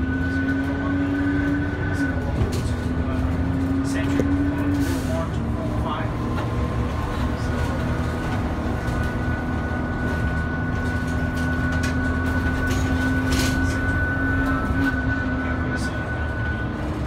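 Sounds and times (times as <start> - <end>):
constant whine: 0.0 - 17.0
engine and road rumble: 0.0 - 17.0.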